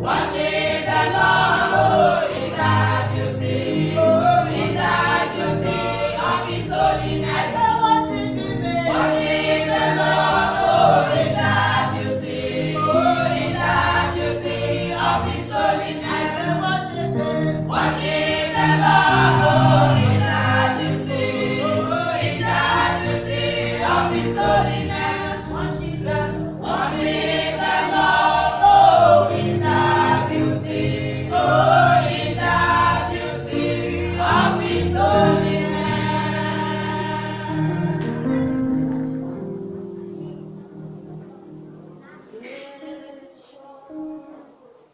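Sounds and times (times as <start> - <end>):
choir singing gospel song: 0.0 - 39.0
instrumental accompaniment: 0.0 - 42.3.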